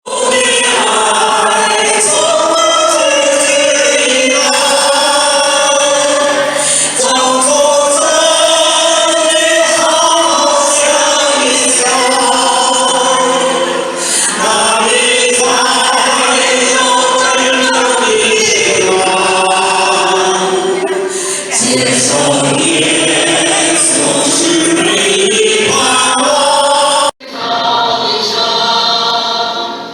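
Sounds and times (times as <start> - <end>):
congregation singing a hymn: 0.0 - 29.9.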